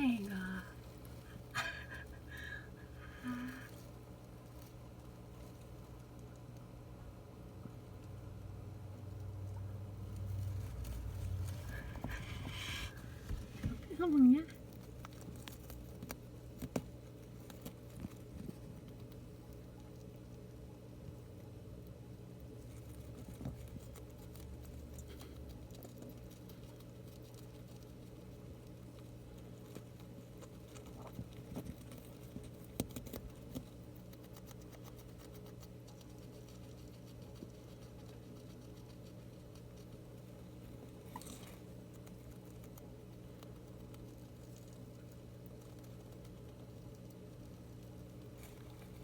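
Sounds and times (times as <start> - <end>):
hamster nibbling: 0.0 - 49.0
steady low hum: 0.0 - 49.0.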